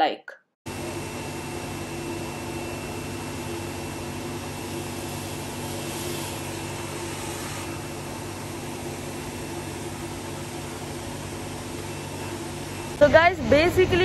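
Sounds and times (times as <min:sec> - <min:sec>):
car wash machine hum: 0:00.7 - 0:14.0.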